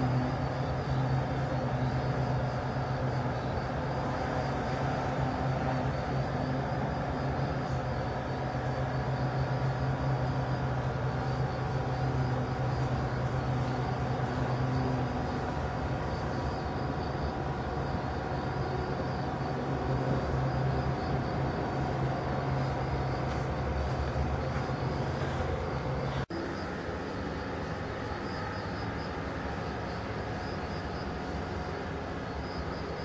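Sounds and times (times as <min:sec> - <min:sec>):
insects trilling: 0:00.0 - 0:33.0
low mechanical rumble: 0:00.0 - 0:33.0.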